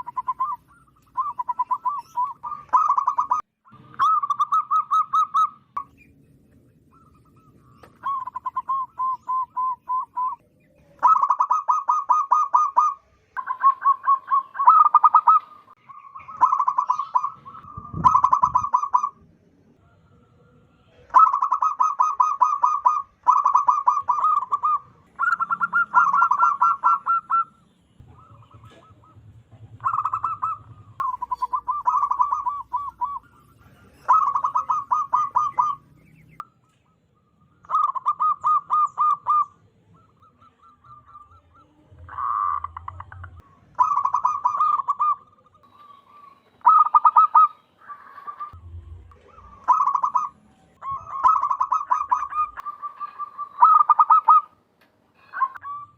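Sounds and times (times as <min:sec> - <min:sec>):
dove cooing: 0:00.0 - 0:06.0, 0:06.6 - 0:36.4, 0:37.6 - 0:54.6, 0:55.2 - 0:55.9.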